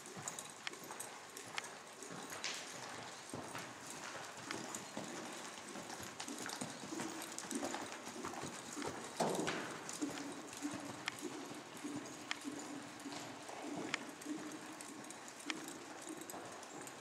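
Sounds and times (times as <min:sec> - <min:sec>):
horse hooves on sand: 0:00.0 - 0:17.0.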